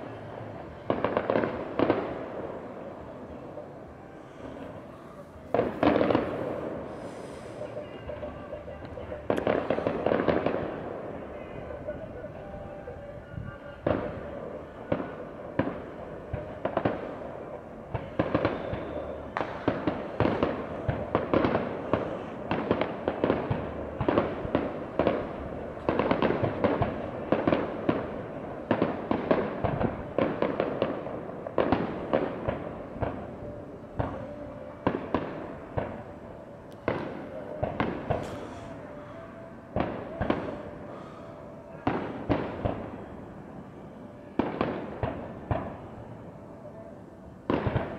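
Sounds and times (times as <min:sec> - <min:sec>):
fireworks bangs and crackles: 0:00.0 - 0:46.6, 0:47.4 - 0:47.9.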